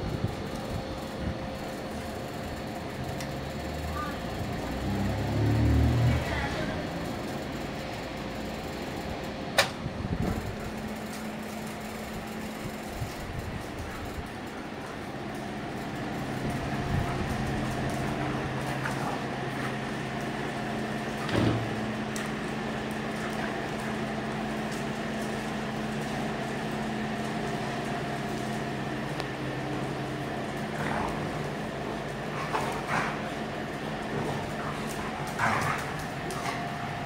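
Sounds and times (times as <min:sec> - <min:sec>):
steady mechanical hum: 0:00.0 - 0:37.0.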